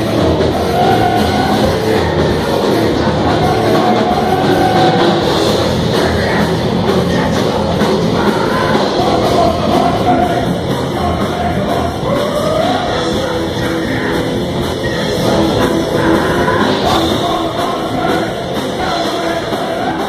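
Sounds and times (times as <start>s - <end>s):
heavy metal band playing: 0.0s - 20.0s
person singing: 0.0s - 20.0s.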